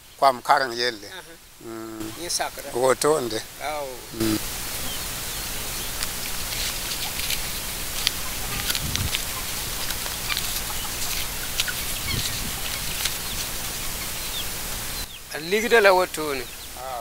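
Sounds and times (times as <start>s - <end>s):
faint bird chirps: 0.0s - 17.0s
steady hiss: 0.0s - 17.0s.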